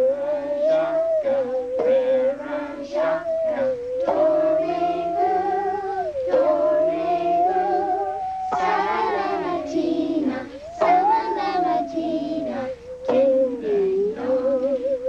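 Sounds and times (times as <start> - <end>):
children and adults singing: 0.0 - 15.0
musical saw tune: 0.0 - 15.0.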